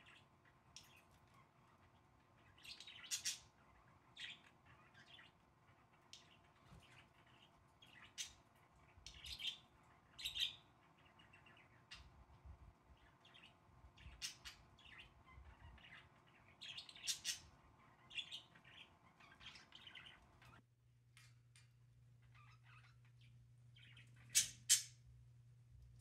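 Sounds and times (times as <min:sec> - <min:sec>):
budgerigars chirping: 0:00.0 - 0:12.1, 0:13.0 - 0:20.6, 0:22.3 - 0:25.0.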